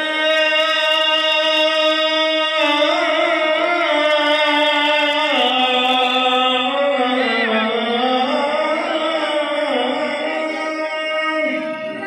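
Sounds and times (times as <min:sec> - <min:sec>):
man chanting call to prayer: 0:00.0 - 0:12.0.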